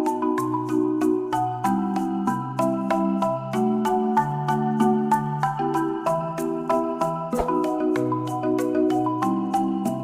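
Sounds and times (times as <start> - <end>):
marimba-like melody with chords and bass: 0.0 - 10.0.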